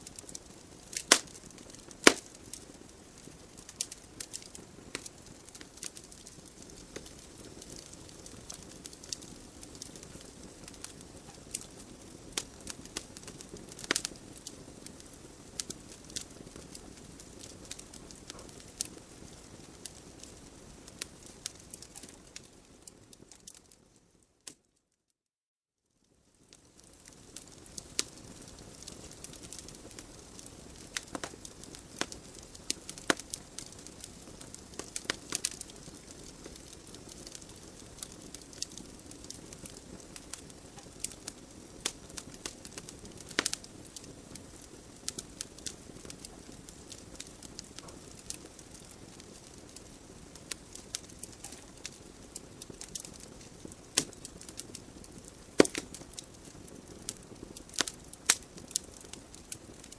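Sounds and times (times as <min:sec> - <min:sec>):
burning logs crackling and popping: 0:00.0 - 0:24.7, 0:26.1 - 0:59.9
hiss of flames: 0:00.1 - 0:22.2, 0:26.6 - 0:59.9.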